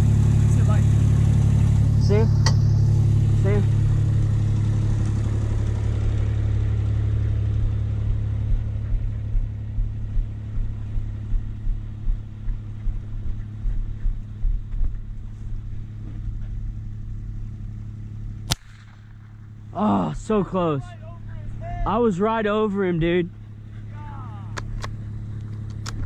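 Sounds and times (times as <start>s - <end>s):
soft engine pulses: 0.0s - 26.0s
utility vehicle engine running: 0.0s - 26.0s.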